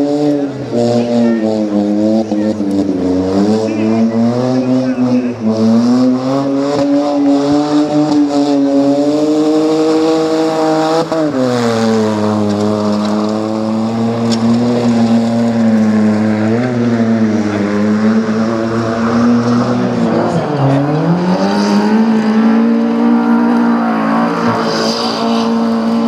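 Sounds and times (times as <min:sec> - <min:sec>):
rally car engine at high revs: 0:00.0 - 0:26.0.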